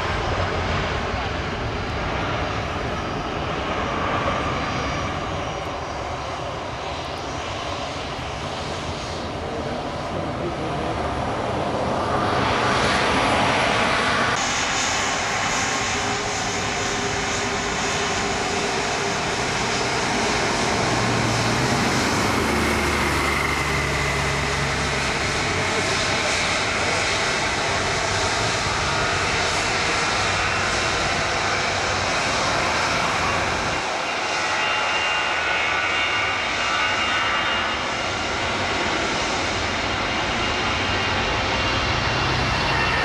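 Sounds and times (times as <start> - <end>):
jet engines rushing on takeoff roll: 0.0 - 43.0
taxiing jet engine whine: 0.0 - 43.0.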